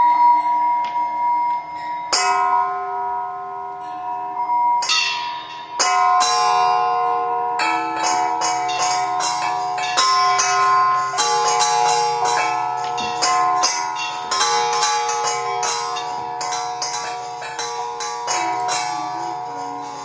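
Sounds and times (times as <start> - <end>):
metal bells ringing: 0.0 - 20.0.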